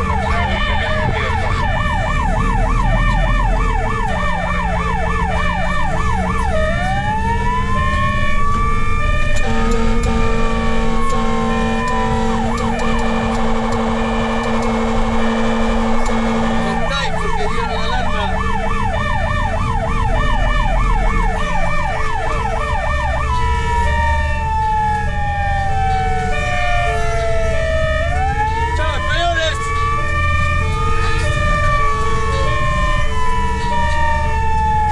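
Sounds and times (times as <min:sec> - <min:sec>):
electronic siren warbling and wailing: 0:00.0 - 0:34.9
pulsing second siren tone: 0:00.0 - 0:34.9
truck engine: 0:00.0 - 0:34.9.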